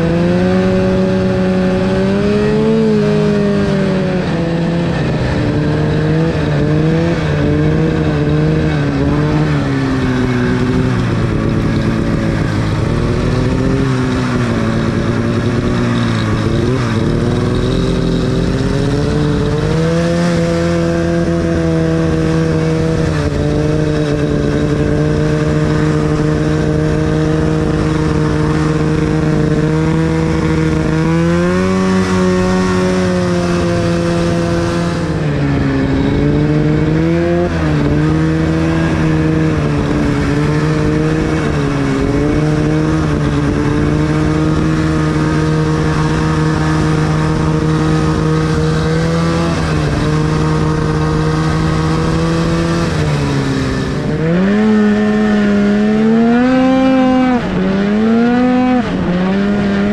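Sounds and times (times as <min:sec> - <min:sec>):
snowmobile engine: 0:00.0 - 0:59.9.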